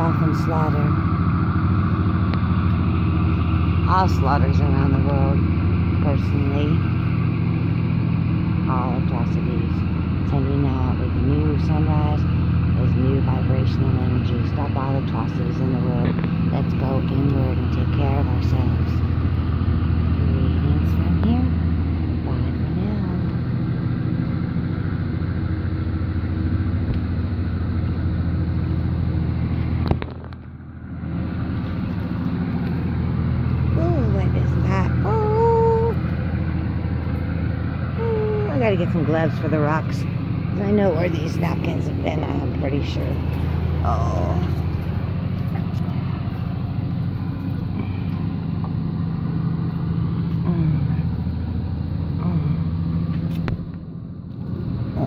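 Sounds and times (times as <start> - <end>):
boat engine rumbling: 0.0 - 55.0.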